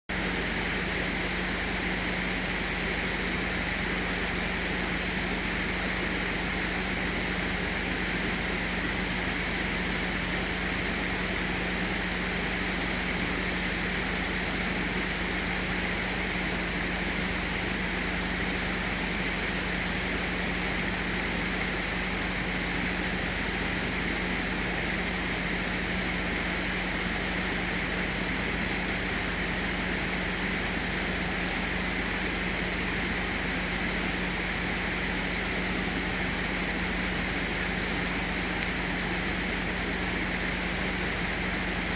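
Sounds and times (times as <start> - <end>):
steady low hum: 0.1 - 41.9
water rushing: 0.1 - 41.9.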